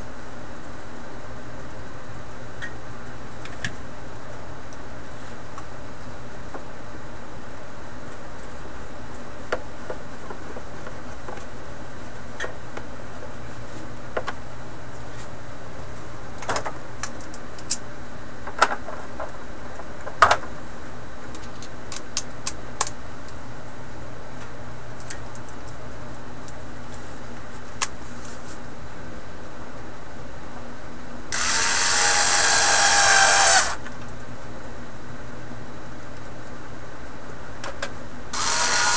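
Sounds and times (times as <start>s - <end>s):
steady hum and hiss: 0.0s - 38.9s.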